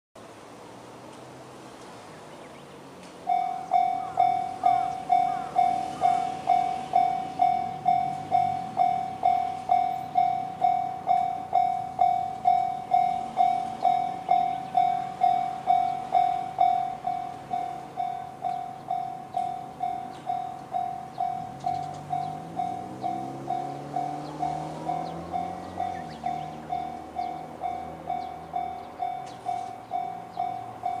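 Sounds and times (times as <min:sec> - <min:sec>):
level crossing warning bell: 0:03.2 - 0:31.0.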